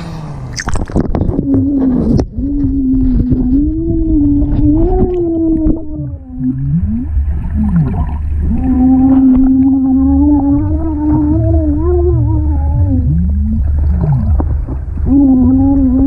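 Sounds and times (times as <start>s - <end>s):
low watery rumble: 0.0s - 16.0s
bubbles blowing underwater: 0.5s - 16.0s
child humming underwater: 1.0s - 16.0s.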